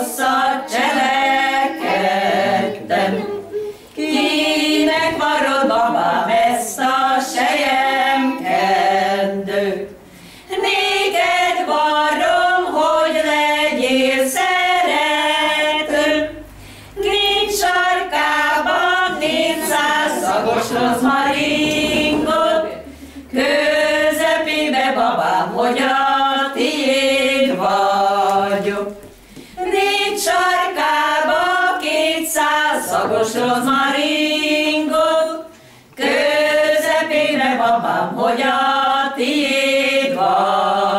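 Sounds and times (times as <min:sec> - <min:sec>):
women singing unaccompanied: 0:00.0 - 0:40.9.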